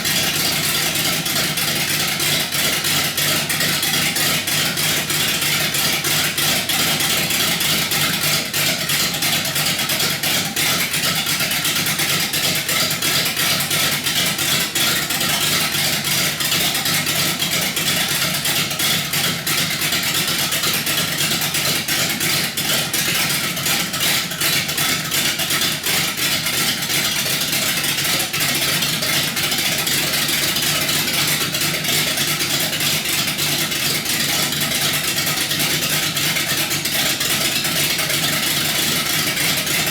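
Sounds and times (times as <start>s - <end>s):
rough engine idling: 0.0s - 39.9s.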